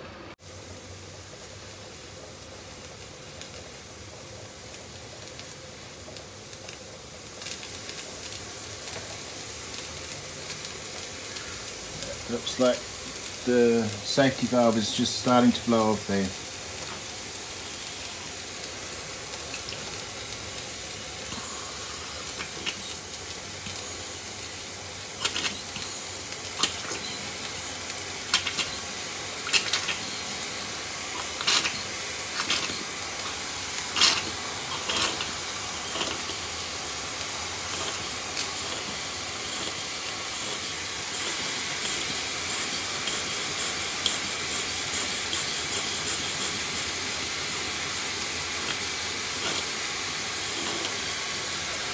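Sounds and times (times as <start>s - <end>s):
steam hissing from valve: 0.0s - 51.9s.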